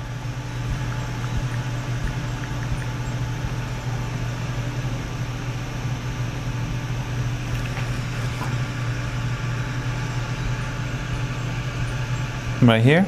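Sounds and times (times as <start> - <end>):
low hum: 0.0 - 12.8
cooling fan whirring: 0.0 - 13.0.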